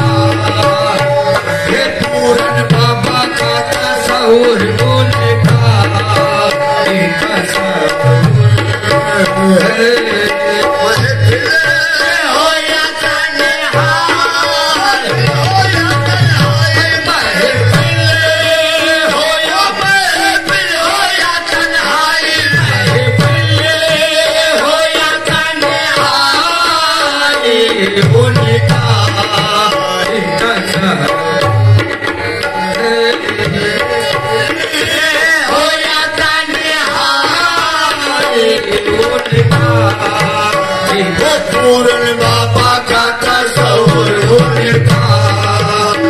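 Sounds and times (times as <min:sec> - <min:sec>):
harmonium chords: 0:00.0 - 0:46.0
voices singing into microphones: 0:00.0 - 0:46.0.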